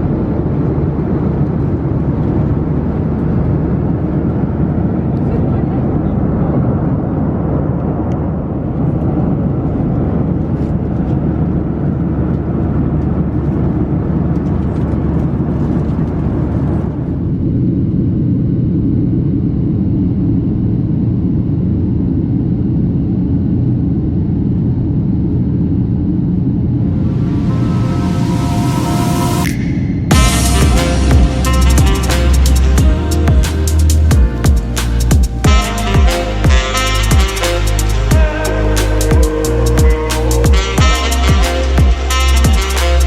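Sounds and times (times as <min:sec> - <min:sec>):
airplane cabin engine noise: 0:00.0 - 0:43.0.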